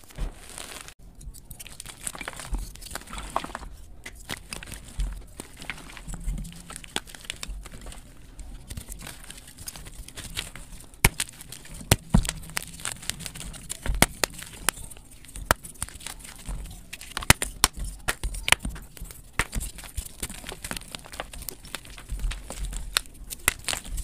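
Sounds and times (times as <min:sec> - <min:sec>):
chalk blocks cracking and crunching: 0:00.0 - 0:24.0
soft powdery rustle: 0:00.0 - 0:24.0.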